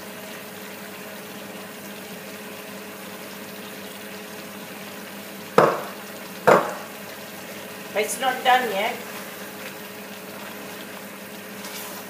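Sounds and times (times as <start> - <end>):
pot simmering with steady hiss: 0.0 - 12.0.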